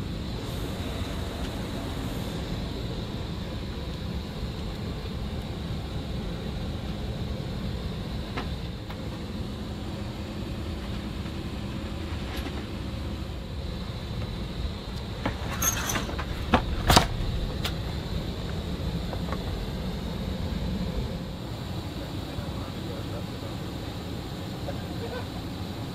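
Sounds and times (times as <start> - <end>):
faint high whine: 0.0 - 25.9
jet cabin engine and air noise: 0.0 - 25.9.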